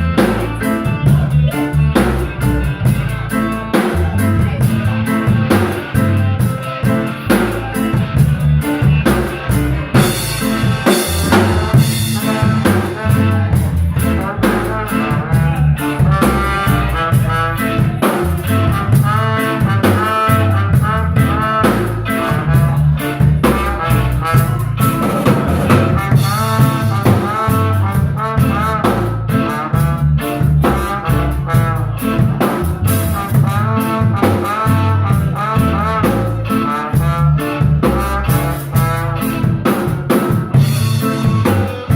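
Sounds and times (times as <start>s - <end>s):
drum kit beat: 0.0s - 41.9s
live instrumental band: 0.0s - 41.9s
wavering lead melody: 0.0s - 41.9s.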